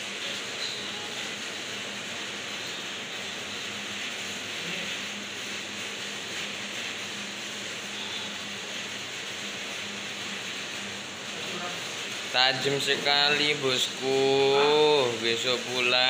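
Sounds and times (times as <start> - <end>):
printer carriage whirring: 0.0 - 16.0.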